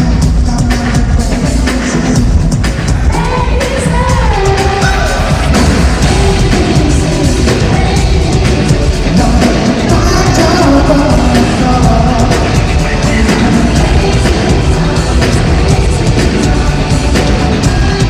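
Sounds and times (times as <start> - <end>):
live rock band playing: 0.0 - 18.0
person singing: 0.0 - 18.0
regular drum hits: 0.0 - 18.0.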